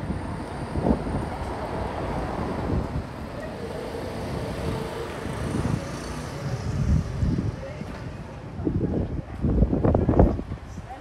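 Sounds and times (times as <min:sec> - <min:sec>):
low rumble of traffic: 0:00.0 - 0:11.0
wind on microphone: 0:00.0 - 0:11.0.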